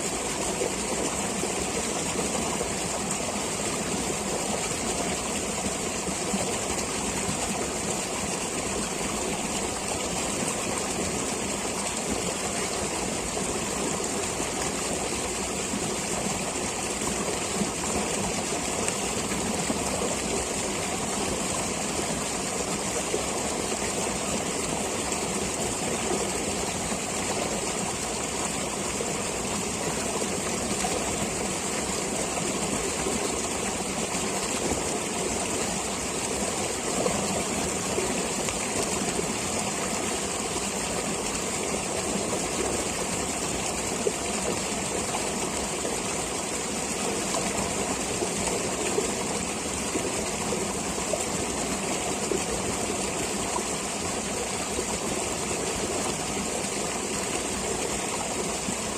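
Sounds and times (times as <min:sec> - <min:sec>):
stream water rushing: 0:00.0 - 0:58.9.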